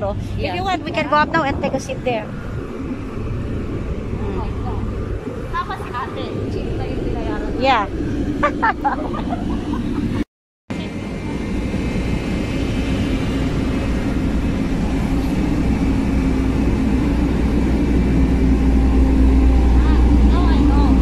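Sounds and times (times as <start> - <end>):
ship engines droning: 0.0 - 21.0.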